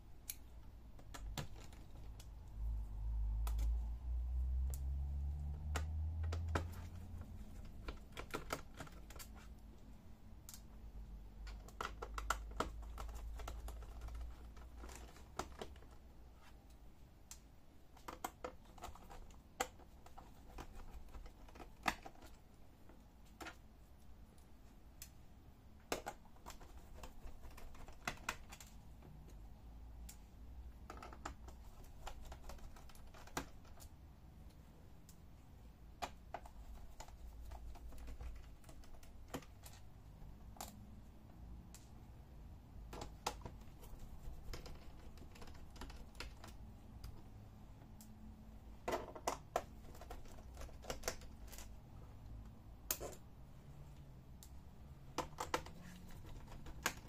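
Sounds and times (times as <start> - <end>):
light clicks and taps: 0.2 - 42.1, 42.8 - 57.0.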